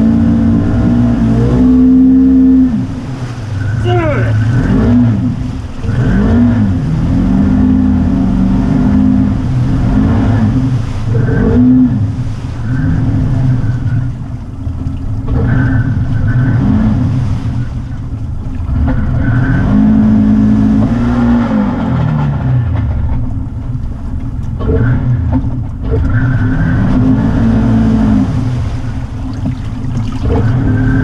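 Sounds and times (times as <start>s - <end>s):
off-road vehicle engine revving: 0.0s - 14.4s, 15.2s - 18.0s, 18.6s - 23.2s, 24.5s - 31.0s.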